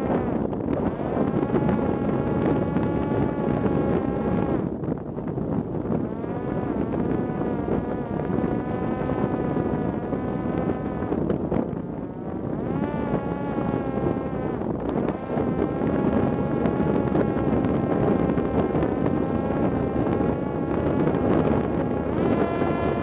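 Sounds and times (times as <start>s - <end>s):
electric motor and propeller whine: 0.0s - 23.0s.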